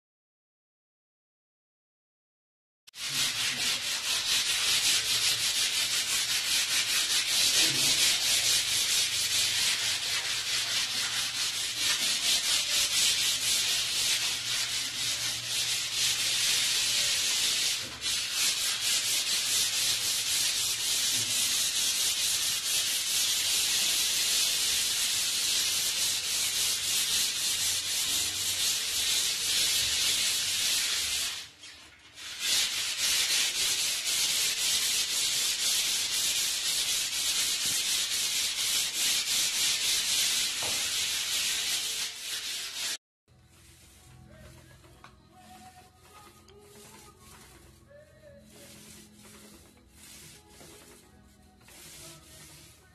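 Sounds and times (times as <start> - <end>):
sandpaper scratching on wall: 2.9 - 52.9.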